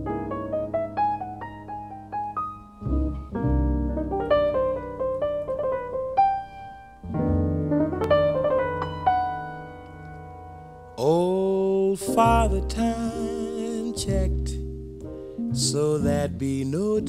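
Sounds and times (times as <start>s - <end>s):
deep bass notes: 0.0s - 6.4s, 7.0s - 17.0s
piano run of single notes: 0.0s - 17.0s.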